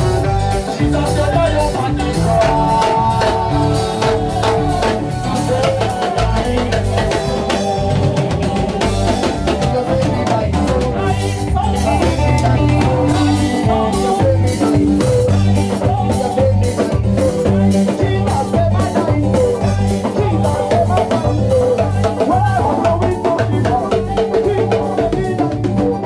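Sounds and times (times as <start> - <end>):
drum kit with cymbals: 0.0 - 26.0
electric guitar: 0.0 - 26.0
low bass notes: 0.0 - 26.0
person singing: 0.0 - 26.0.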